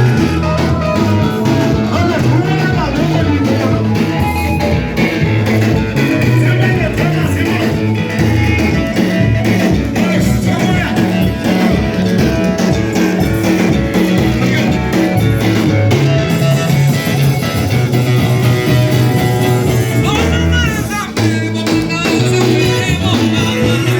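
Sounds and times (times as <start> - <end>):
bass guitar: 0.0 - 23.9
guitar: 0.0 - 23.9
worship band music: 0.0 - 23.9.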